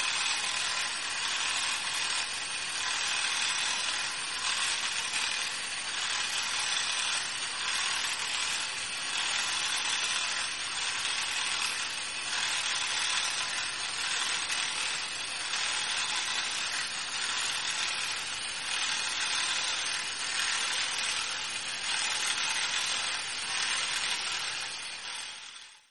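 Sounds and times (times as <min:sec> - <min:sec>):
robot motor and gears whirring: 0:00.0 - 0:25.7.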